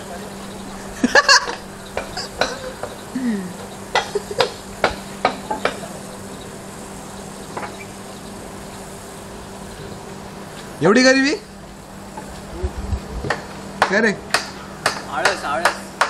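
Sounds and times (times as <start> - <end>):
water spraying from garden hose: 0.0 - 13.6.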